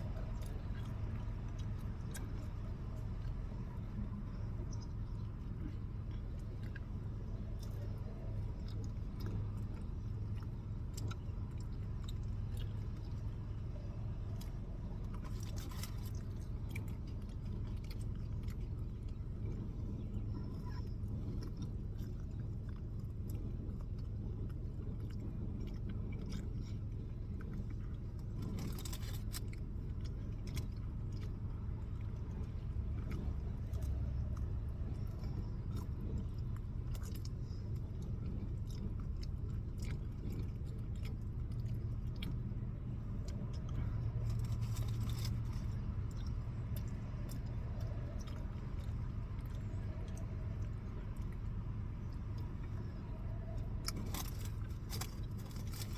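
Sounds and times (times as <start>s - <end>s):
close chewing and eating: 0.0s - 55.9s
steady low hum: 0.0s - 55.9s.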